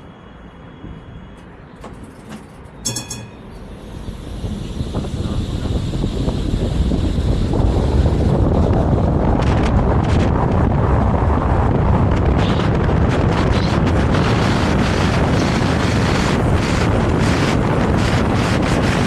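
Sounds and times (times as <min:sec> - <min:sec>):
tram wheels rumbling on rail: 0:00.0 - 0:19.0.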